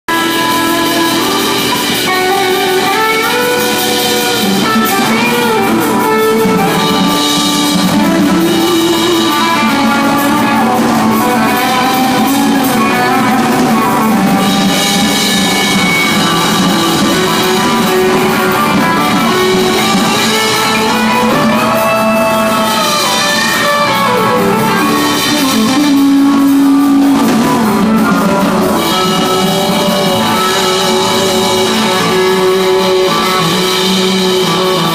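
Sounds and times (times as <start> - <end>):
electric guitar: 0.0 - 34.9
drum kit: 0.1 - 34.9.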